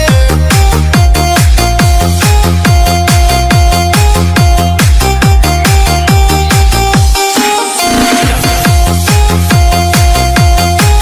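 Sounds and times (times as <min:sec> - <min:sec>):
electronic disco dance music: 0:00.0 - 0:11.0.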